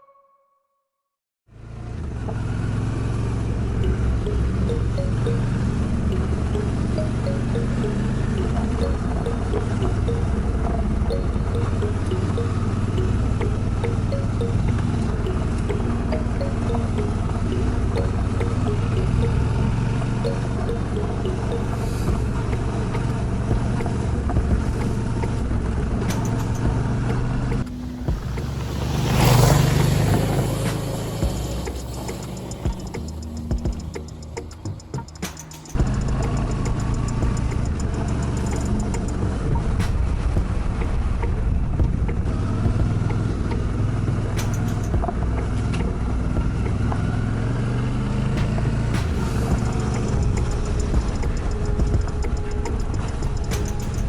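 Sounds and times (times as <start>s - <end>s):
motorcycle engine running: 1.5s - 34.2s, 35.8s - 54.0s.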